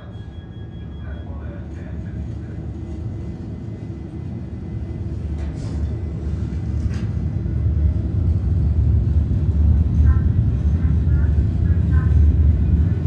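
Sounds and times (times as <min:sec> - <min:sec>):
deep low rumbling drone: 0:00.0 - 0:13.0.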